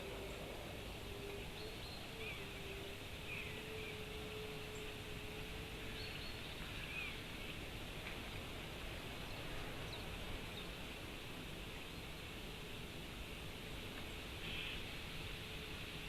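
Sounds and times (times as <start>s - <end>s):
low steady hum: 0.0s - 16.0s
steady background hiss: 0.0s - 16.0s.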